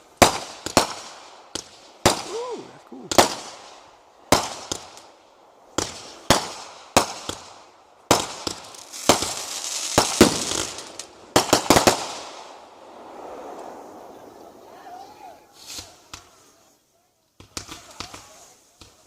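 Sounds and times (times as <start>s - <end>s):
fireworks bangs: 0.0s - 16.8s, 17.4s - 19.0s
fireworks crackling: 0.0s - 19.0s.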